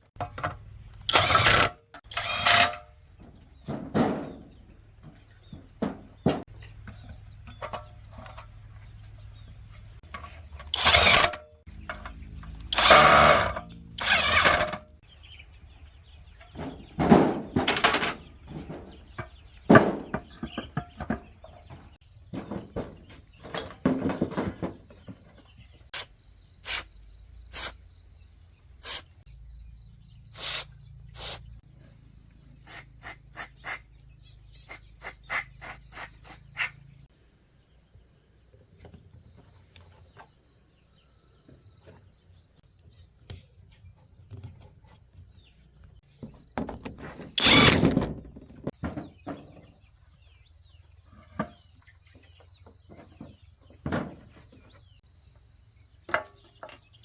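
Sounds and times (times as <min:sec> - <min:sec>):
crickets chirring: 0:00.2 - 0:57.0.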